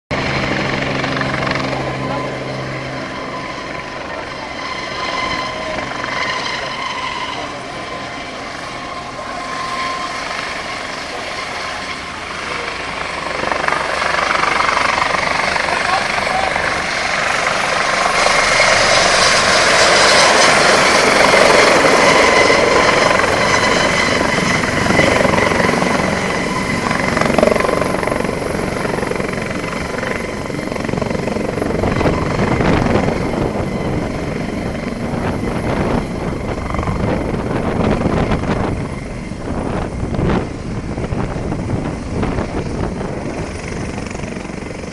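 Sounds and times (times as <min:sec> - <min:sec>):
helicopter turbine and rotor: 0:00.1 - 0:44.9
low gusty surges: 0:00.2 - 0:44.9.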